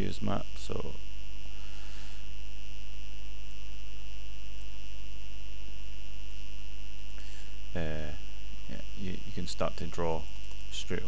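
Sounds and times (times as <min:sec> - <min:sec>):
electrical mains hum: 0:00.0 - 0:11.0
high-pitched whine: 0:00.0 - 0:11.0.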